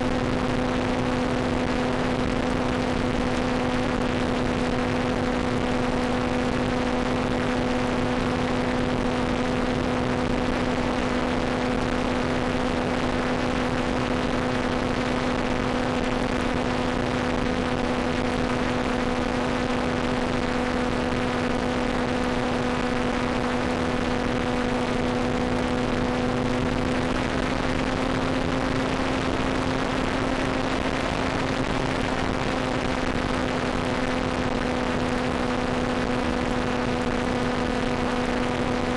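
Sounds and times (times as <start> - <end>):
steady droning hum with hiss: 0.0 - 38.9.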